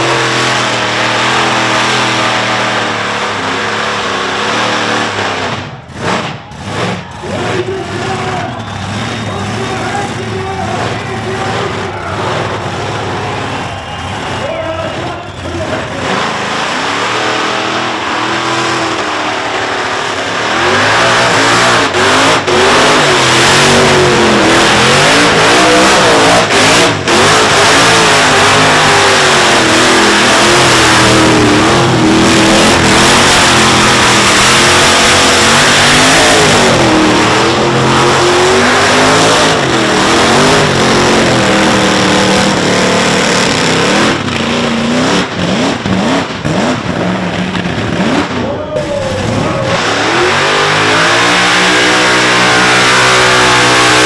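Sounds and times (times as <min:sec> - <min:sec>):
engine revving high: 0:00.0 - 0:54.0.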